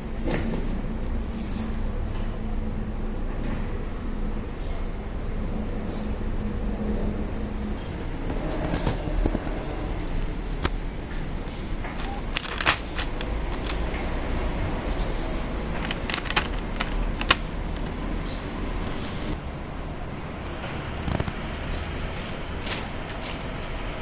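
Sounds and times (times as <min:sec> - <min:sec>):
distant traffic rumble: 0:00.0 - 0:24.0.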